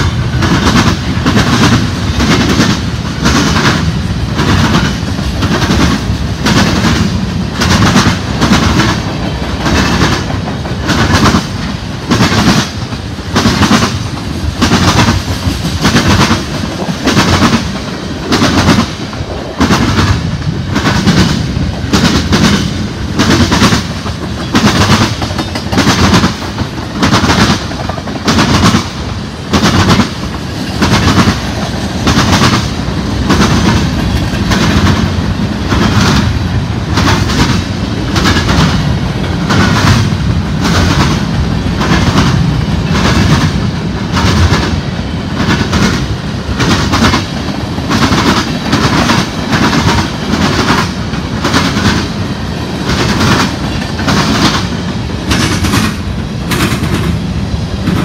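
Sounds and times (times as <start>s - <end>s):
train wheels clacking over rail joints: 0.0s - 57.2s
train low rumble: 0.0s - 58.0s.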